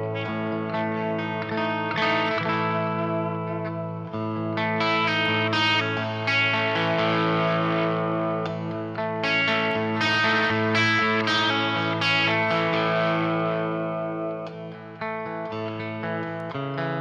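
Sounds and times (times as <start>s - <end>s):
electric guitar chords ringing: 0.0s - 17.0s.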